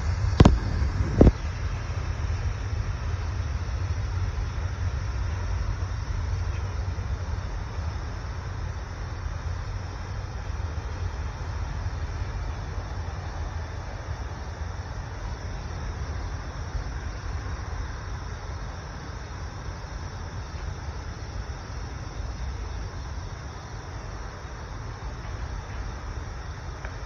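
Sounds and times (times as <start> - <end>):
distant freight train rumble: 0.0 - 27.0
insects chirping: 0.0 - 27.0.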